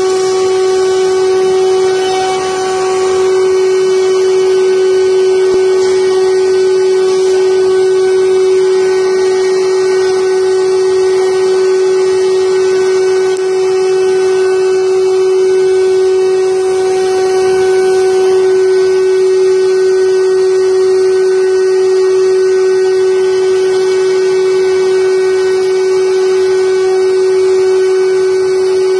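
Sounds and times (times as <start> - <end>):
bit cutting wood hiss: 0.0 - 28.7
router spindle whine: 0.0 - 28.9.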